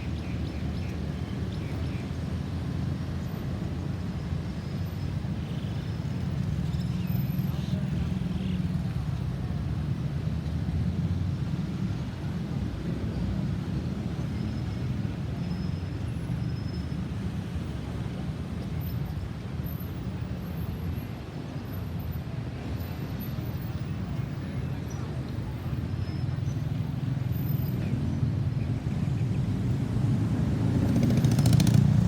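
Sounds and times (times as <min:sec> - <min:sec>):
road vehicles rumbling: 0:00.0 - 0:32.0.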